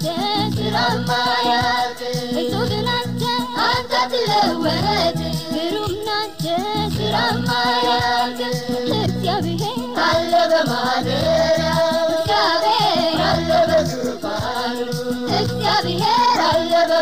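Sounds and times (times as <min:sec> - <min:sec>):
band with bass line: 0:00.0 - 0:01.7, 0:02.5 - 0:03.4, 0:04.3 - 0:05.6, 0:06.6 - 0:16.9
lead singer: 0:00.0 - 0:17.0
choir singing: 0:00.5 - 0:05.2, 0:07.1 - 0:09.1, 0:09.7 - 0:17.0.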